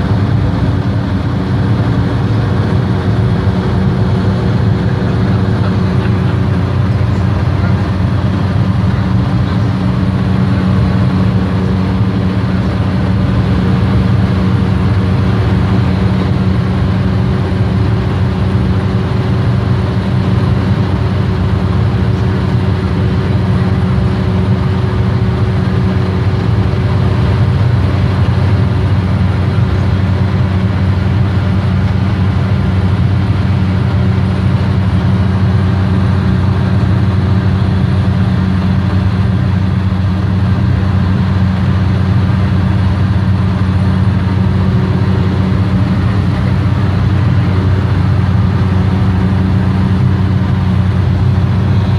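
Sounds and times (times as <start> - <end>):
propeller plane engine droning: 0.0 - 51.9.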